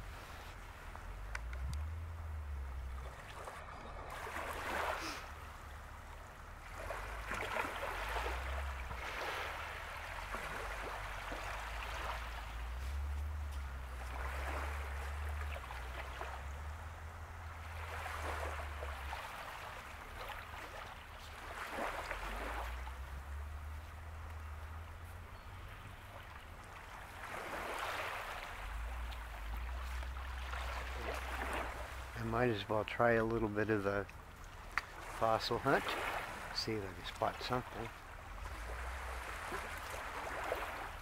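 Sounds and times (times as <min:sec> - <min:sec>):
low steady rumble: 0:00.0 - 0:41.0
small waves washing in: 0:00.0 - 0:41.0.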